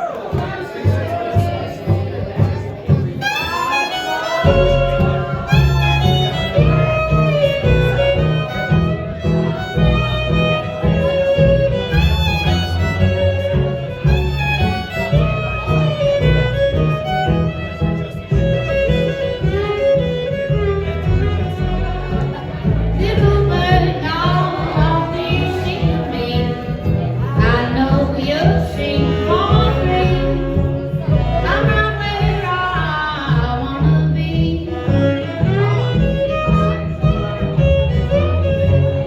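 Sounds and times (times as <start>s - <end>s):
acoustic band playing: 0.0s - 39.0s
fiddle melody: 0.0s - 39.0s
loud bass line: 0.8s - 39.0s.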